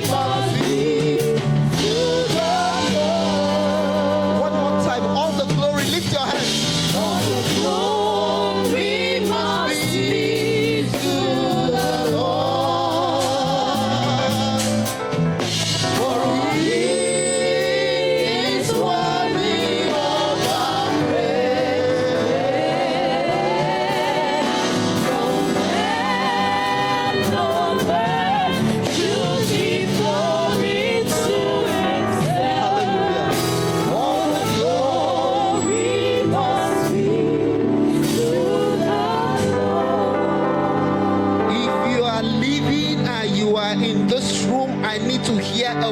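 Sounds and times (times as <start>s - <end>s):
bass line: 0.0s - 45.9s
choir singing gospel song: 0.0s - 45.9s
live band playing: 0.0s - 45.9s.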